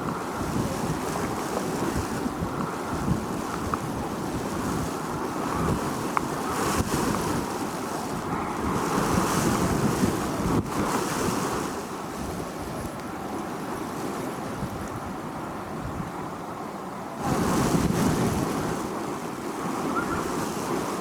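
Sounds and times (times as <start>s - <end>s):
wind blowing: 0.0s - 16.3s, 17.2s - 21.0s
wind buffeting microphone: 0.0s - 16.4s, 17.2s - 21.0s.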